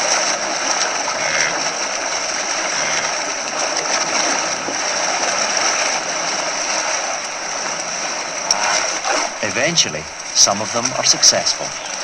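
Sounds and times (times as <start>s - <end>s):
animals splashing in river water: 0.0s - 12.0s.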